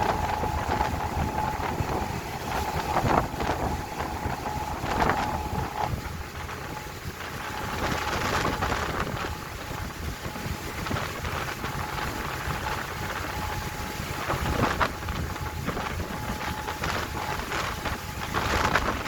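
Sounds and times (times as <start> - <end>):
low steady rumble: 0.0 - 19.0
water splashing on boat: 0.0 - 19.0
wind buffeting microphone: 0.0 - 19.0.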